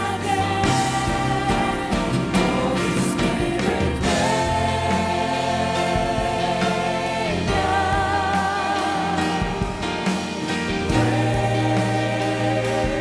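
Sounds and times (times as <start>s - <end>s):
backing singers: 0.0s - 13.0s
band playing: 0.0s - 13.0s.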